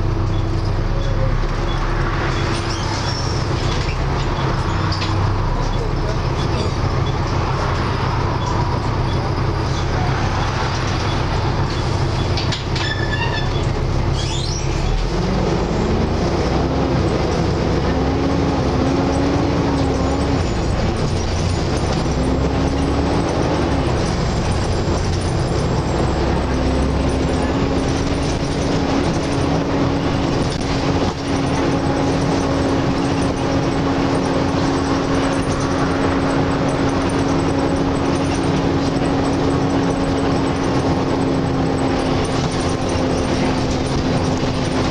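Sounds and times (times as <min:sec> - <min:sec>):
bus engine drone: 0:00.0 - 0:44.9
road noise: 0:00.0 - 0:44.9.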